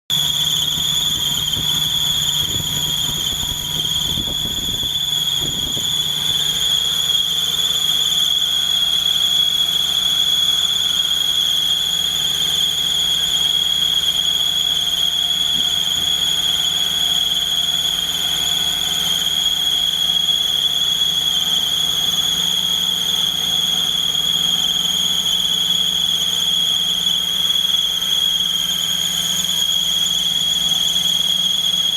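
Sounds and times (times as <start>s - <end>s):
engine running: 0.1s - 31.8s
high-pitched squeal: 0.1s - 31.9s.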